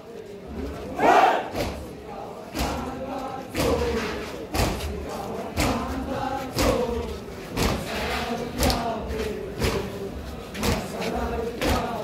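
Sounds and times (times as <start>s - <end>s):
crowd chanting a lament: 0.0s - 12.0s.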